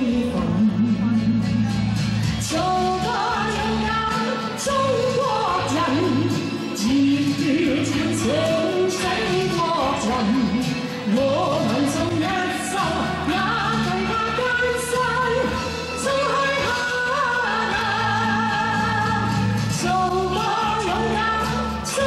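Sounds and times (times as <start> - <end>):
amplified instrumental accompaniment: 0.0 - 22.0
woman singing into microphone: 0.0 - 22.0.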